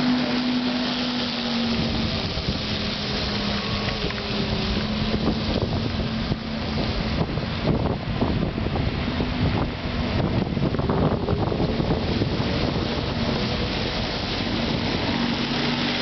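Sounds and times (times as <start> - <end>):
wind buffeting microphone: 1.2 - 16.0.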